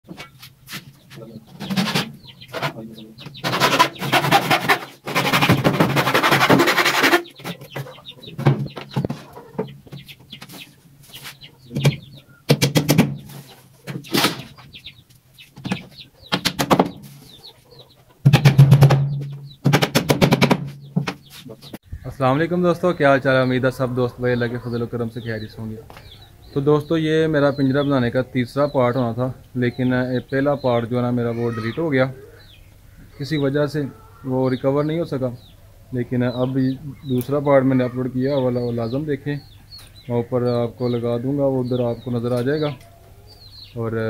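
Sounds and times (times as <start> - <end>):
chickens clucking: 0.1 - 44.0.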